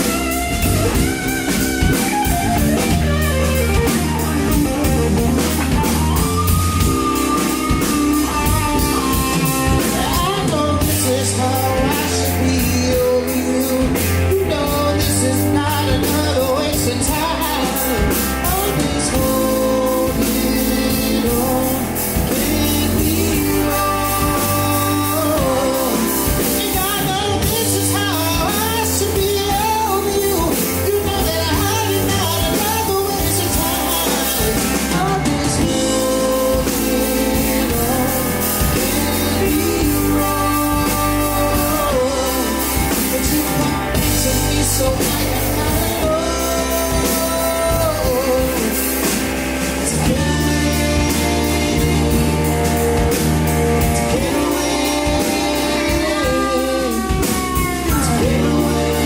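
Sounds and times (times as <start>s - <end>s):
lead singer singing: 0.0s - 59.0s
rock band playing: 0.0s - 59.0s.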